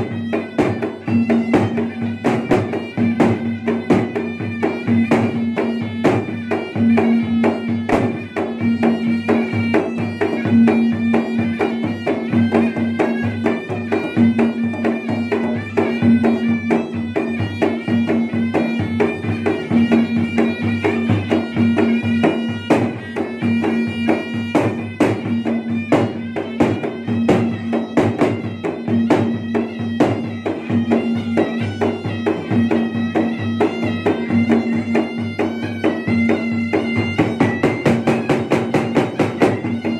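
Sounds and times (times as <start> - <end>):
barrel drums beaten fast: 0.0 - 39.9
nasal shawm melody: 0.0 - 39.9.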